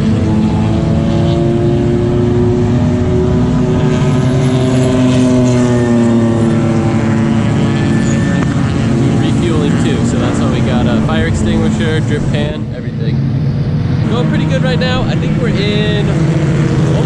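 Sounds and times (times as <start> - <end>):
race car engine running: 0.0 - 17.0.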